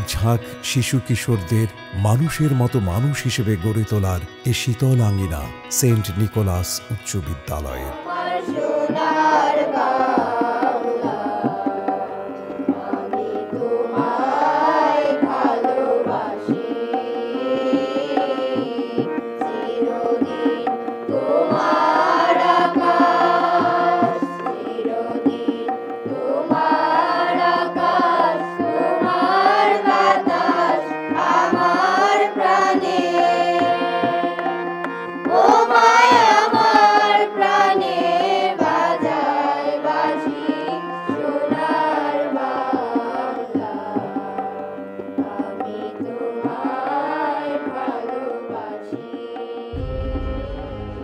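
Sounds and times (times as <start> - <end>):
harmonium drone: 0.0 - 51.0
tabla: 0.0 - 51.0
group singing in unison: 7.9 - 51.0.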